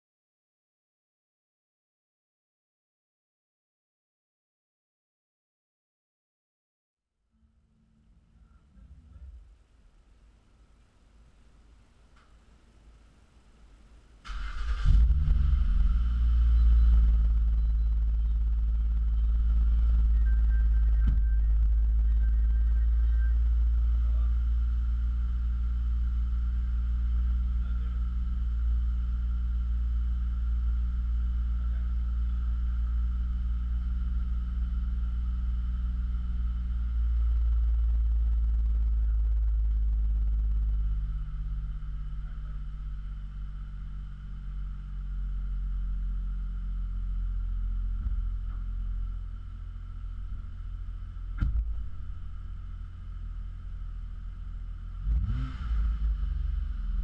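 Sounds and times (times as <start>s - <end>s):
car engine idling: 7.5s - 57.0s.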